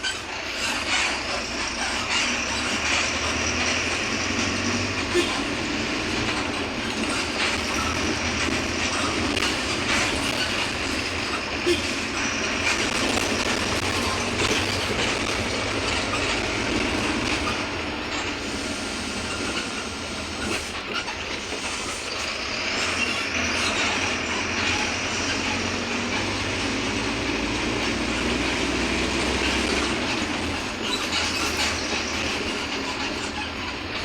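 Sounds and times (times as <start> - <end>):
bus diesel engine running: 0.0 - 34.0
moving bus noise: 0.0 - 34.0.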